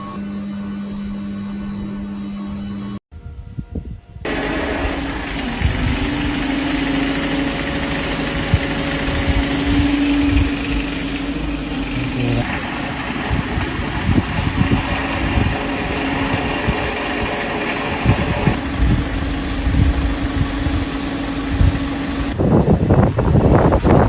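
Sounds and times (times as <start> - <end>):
machine humming: 4.3 - 24.0.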